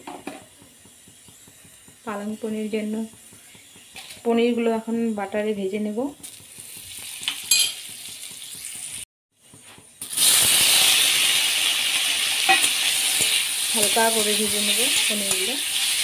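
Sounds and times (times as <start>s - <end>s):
butter sizzling in a pan: 0.0s - 16.0s.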